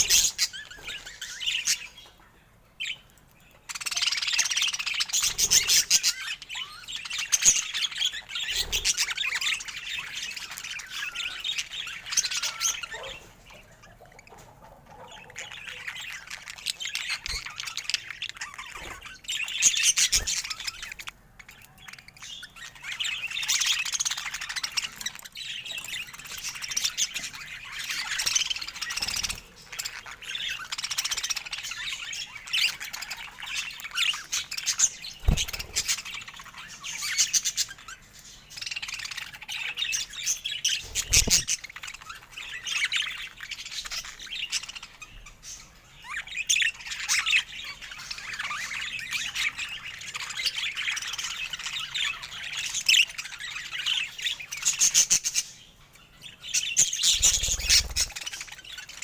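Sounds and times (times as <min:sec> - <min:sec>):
budgerigars chattering: 0:00.0 - 0:59.0.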